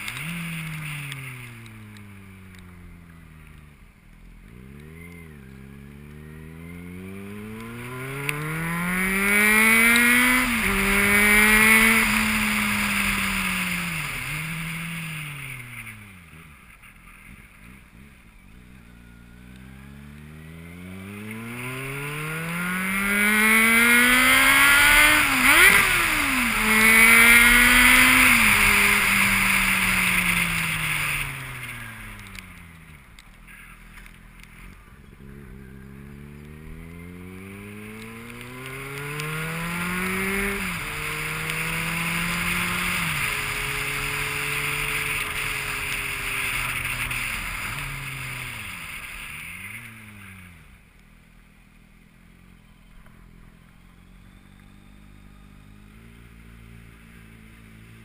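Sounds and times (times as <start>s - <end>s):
vehicles accelerating past: 4.5s - 51.0s.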